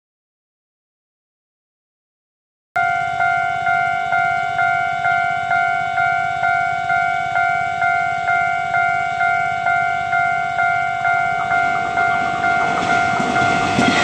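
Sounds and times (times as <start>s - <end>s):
level crossing bell ringing: 2.8s - 14.0s.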